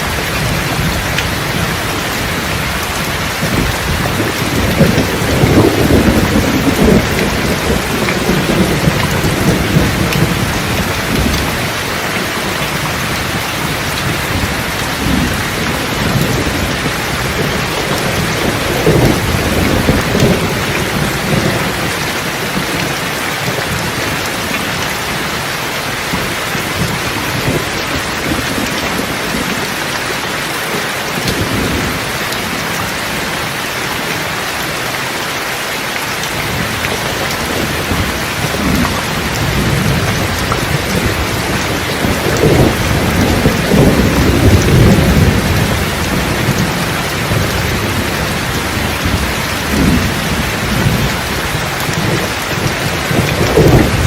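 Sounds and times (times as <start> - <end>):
thunder rumbling: 0.0 - 30.4, 31.1 - 33.6, 36.3 - 54.0
heavy rain falling: 0.0 - 54.0.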